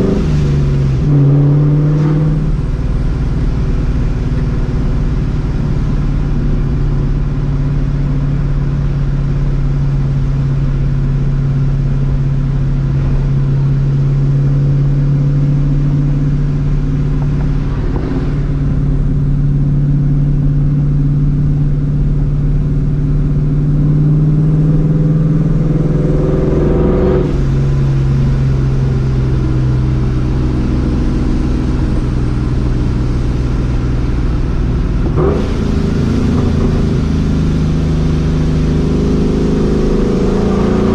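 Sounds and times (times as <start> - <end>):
supercharged car engine cruising: 0.0 - 40.9.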